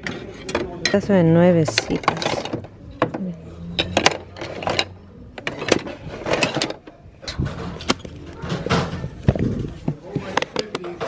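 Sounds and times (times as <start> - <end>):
kitchen utensils clattering: 0.0 - 3.2, 3.8 - 11.0.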